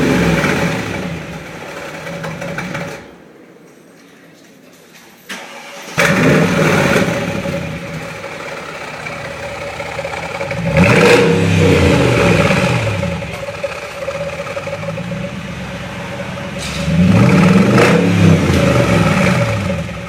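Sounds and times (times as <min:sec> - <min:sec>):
car engine revving: 0:00.0 - 0:03.1, 0:05.5 - 0:20.0.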